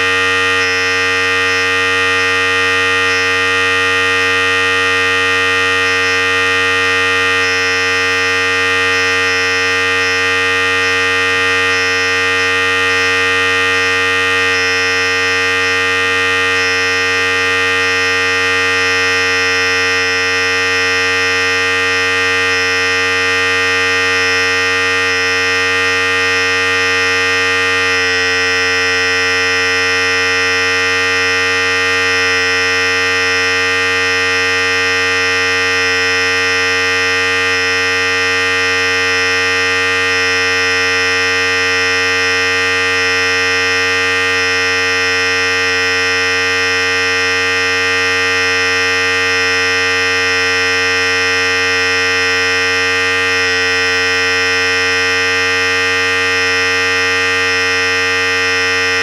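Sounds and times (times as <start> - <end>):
electric hair clipper buzzing: 0.0 - 59.0.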